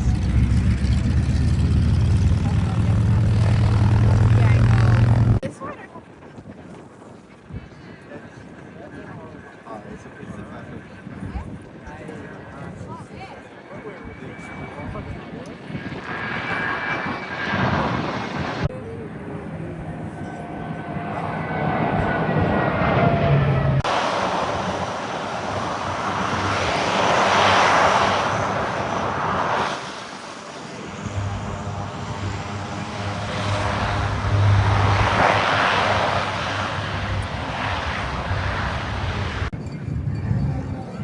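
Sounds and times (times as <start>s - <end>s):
aircraft engines flying past: 0.0s - 41.0s.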